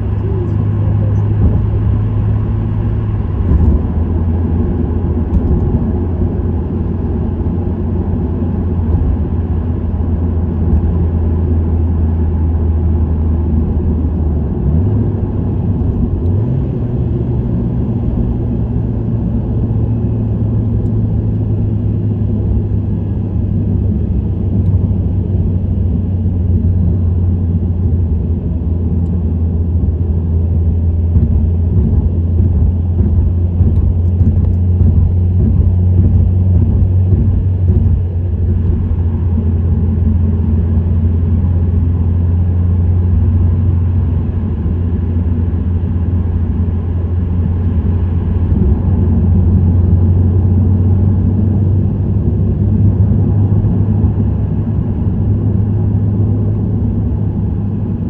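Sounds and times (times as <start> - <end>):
car engine droning at cruise: 0.0 - 58.0
road noise: 0.0 - 58.0.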